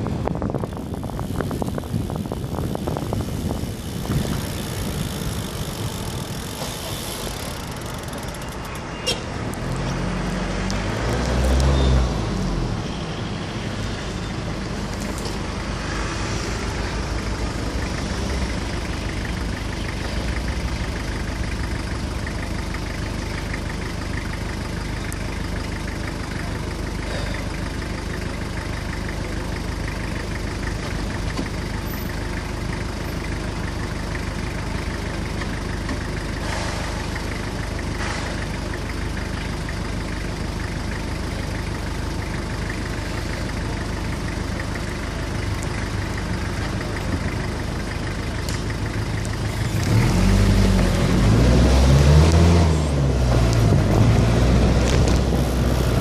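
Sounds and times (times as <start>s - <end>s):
car engine idling: 0.0s - 9.8s, 13.8s - 56.0s
street traffic: 0.0s - 56.0s.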